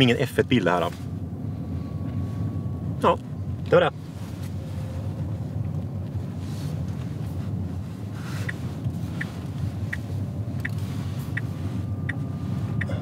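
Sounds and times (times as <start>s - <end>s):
road and tyre noise in car: 0.0s - 13.0s.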